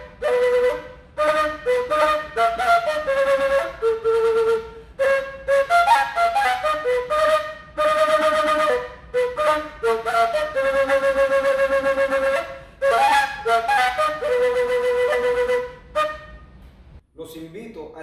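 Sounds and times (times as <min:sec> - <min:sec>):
breathy duct flute melody: 0:00.0 - 0:17.0.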